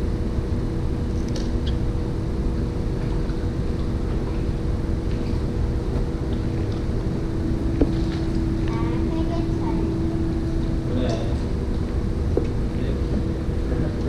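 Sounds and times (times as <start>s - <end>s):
water pump humming: 0.0s - 14.0s.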